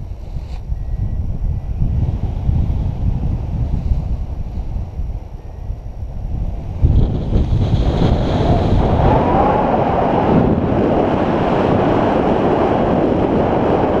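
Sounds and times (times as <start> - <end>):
wind roaring over microphone: 0.0 - 14.0.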